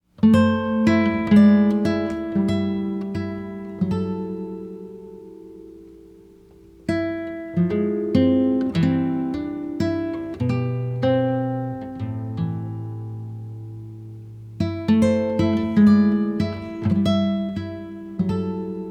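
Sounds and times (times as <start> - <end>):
acoustic guitar plucking: 0.1 - 18.9.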